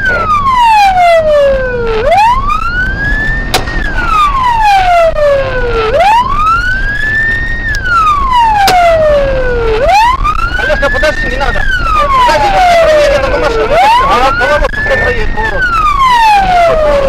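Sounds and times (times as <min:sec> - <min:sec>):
engine and road rumble: 0:00.0 - 0:17.0
police siren wailing: 0:00.0 - 0:17.0.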